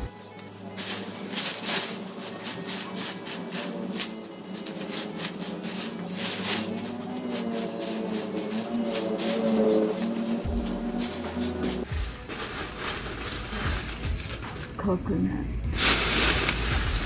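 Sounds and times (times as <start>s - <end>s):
plastic trash bag rustling: 0.0s - 15.1s, 15.7s - 17.0s
dry leaves crackling: 0.0s - 17.0s.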